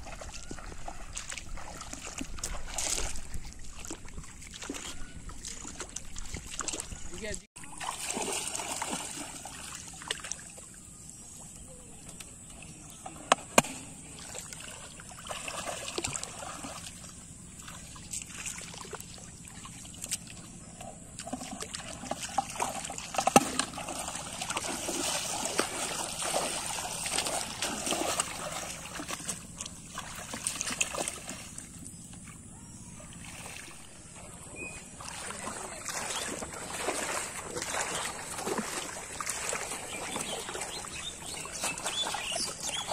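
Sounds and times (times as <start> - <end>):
legs splashing through water: 0.0 - 11.8, 12.5 - 42.9.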